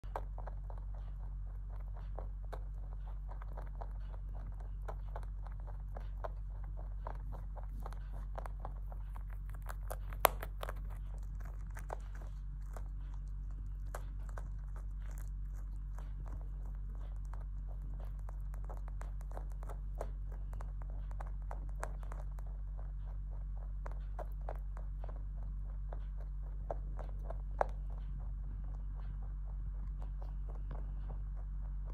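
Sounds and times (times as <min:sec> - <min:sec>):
rabbit crunching hay: 0:00.0 - 0:31.9
steady low hum: 0:00.0 - 0:31.9.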